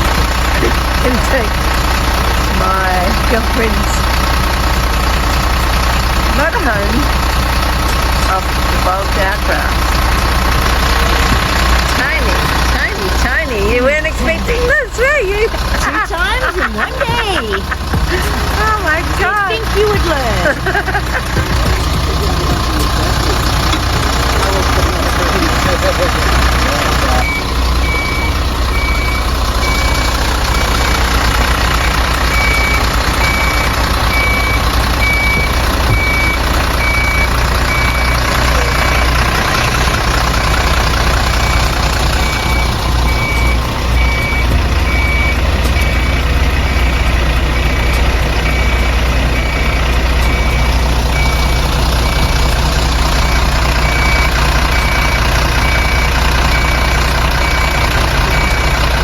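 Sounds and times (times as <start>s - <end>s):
reversing alarm beeping: 0.0s - 59.0s
truck engine running under load: 0.0s - 59.0s.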